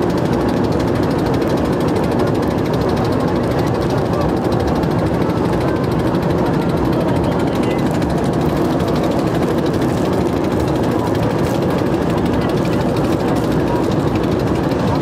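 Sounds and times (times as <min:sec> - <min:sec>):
engine chugging steadily: 0:00.0 - 0:15.0.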